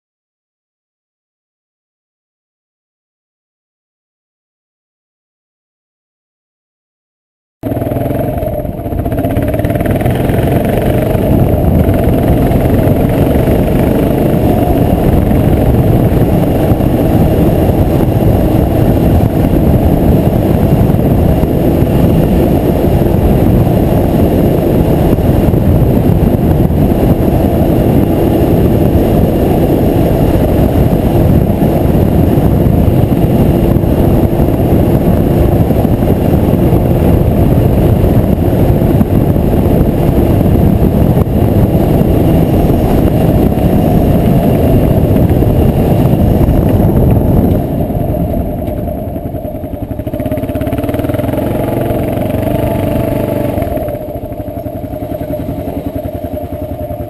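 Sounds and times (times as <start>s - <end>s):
motorcycle engine: 7.6s - 57.0s
wind rush: 7.6s - 57.0s.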